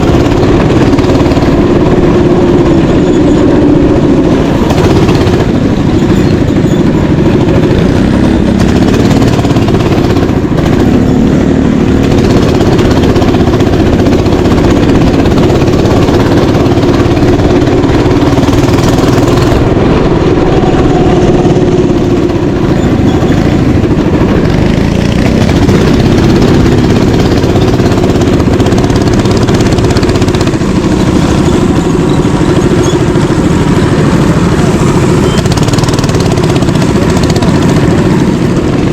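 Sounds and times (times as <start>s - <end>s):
mini bike engine running: 0.0s - 38.9s.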